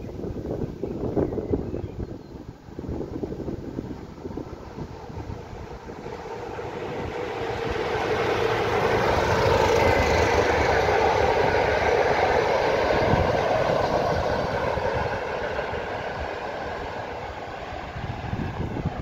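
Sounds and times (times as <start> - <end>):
diesel locomotive passing: 0.1 - 19.0.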